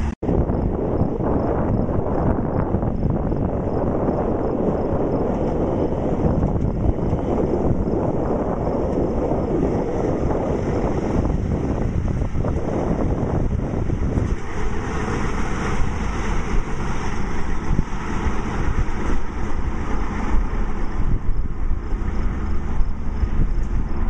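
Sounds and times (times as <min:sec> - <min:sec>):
diesel truck driving slowly past: 0:00.0 - 0:24.0.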